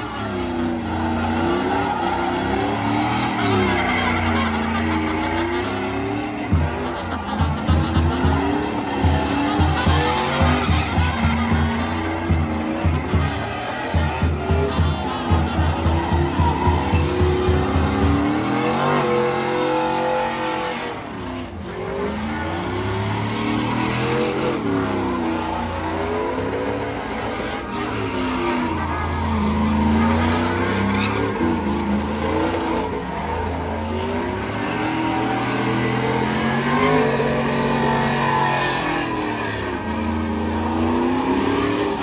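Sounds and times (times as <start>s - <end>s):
engine revving: 0.0s - 42.0s.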